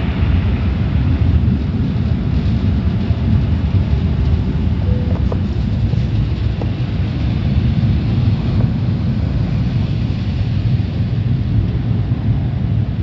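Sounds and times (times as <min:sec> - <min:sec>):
car wash low rumble: 0:00.0 - 0:13.0.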